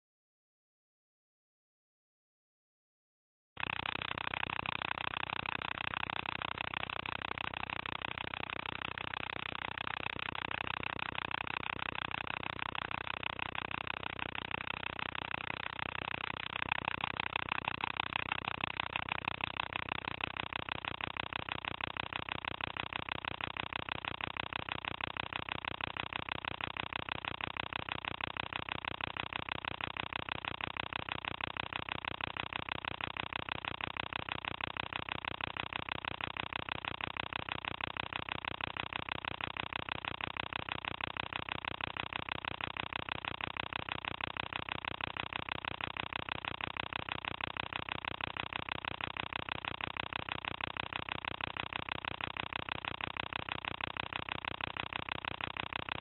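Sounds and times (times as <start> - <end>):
film projector clattering: 3.6 - 56.0.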